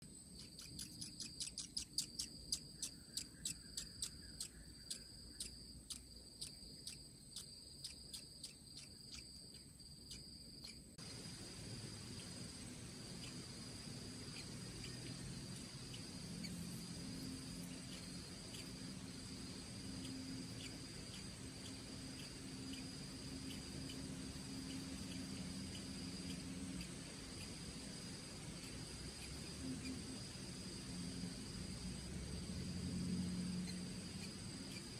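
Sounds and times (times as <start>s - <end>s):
insects droning and ticking: 0.0s - 34.9s
low background hiss: 0.0s - 34.9s.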